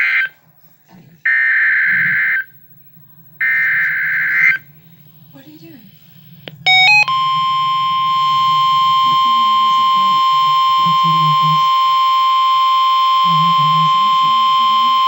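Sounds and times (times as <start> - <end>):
high steady alarm tone: 0.0 - 0.3, 1.3 - 2.6, 3.3 - 5.3, 6.2 - 15.0.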